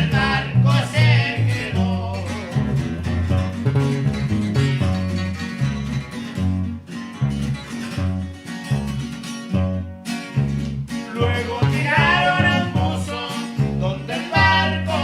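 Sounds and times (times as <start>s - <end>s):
bouncing bass line: 0.0s - 15.0s
plucked strings: 0.0s - 15.0s.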